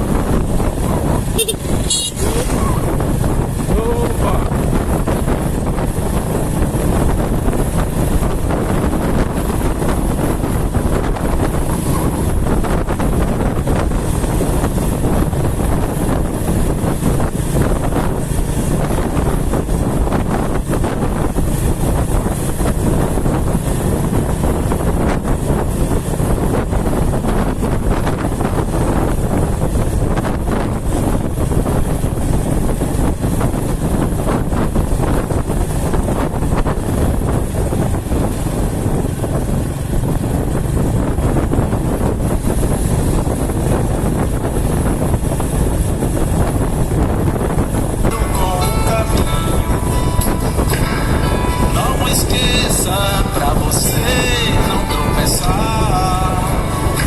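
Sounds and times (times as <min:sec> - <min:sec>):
moving vehicle running noise: 0:00.0 - 0:57.0
wind rushing over microphone: 0:00.0 - 0:57.0.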